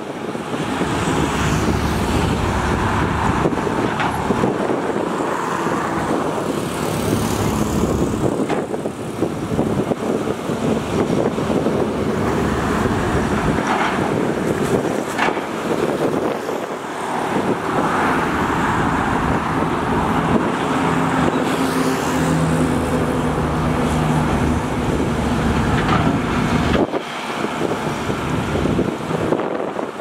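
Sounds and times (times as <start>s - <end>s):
excavator diesel engine running: 2.4s - 29.5s.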